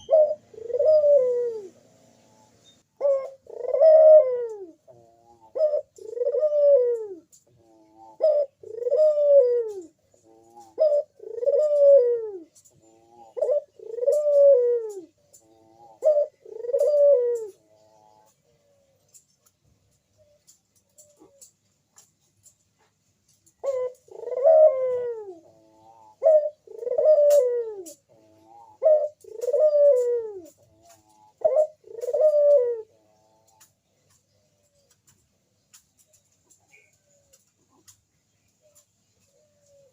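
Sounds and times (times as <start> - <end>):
dove cooing: 0.0 - 19.4, 20.2 - 22.2, 23.5 - 39.9.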